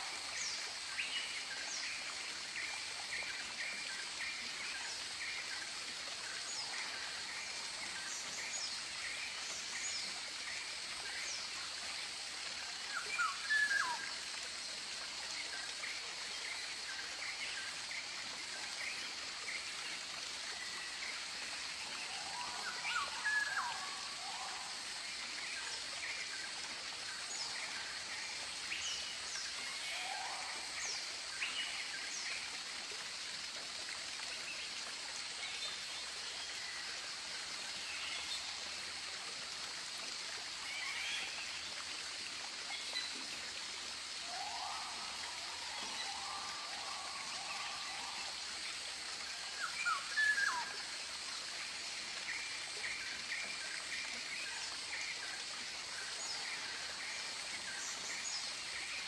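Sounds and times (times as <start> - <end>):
steady high-pitched hiss: 0.0 - 59.0.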